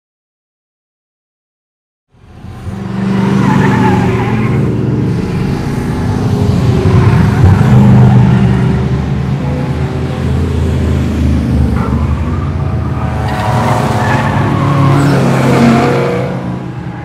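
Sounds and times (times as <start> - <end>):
race car engines running: 2.2 - 17.0.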